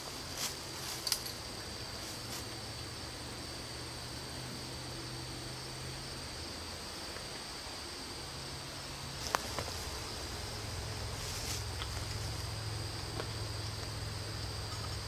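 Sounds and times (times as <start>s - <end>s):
insects trilling: 0.0s - 15.0s
low hum: 0.0s - 15.0s.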